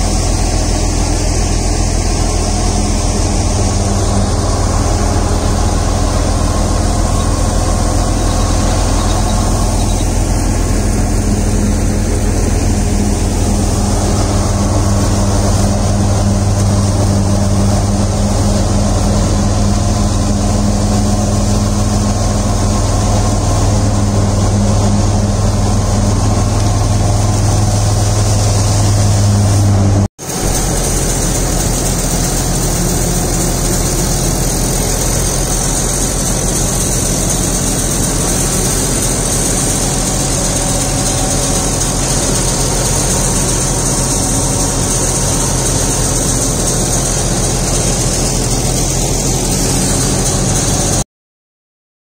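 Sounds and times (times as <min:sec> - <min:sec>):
thresher machine droning: 0:00.0 - 0:51.0.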